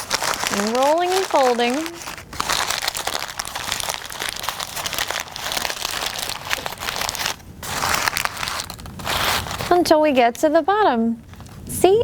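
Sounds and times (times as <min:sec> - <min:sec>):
paper bag crinkling: 0:00.0 - 0:09.9.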